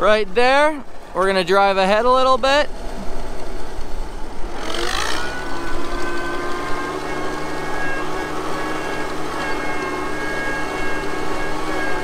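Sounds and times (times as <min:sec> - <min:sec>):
tractor engine revving: 0:00.0 - 0:12.0.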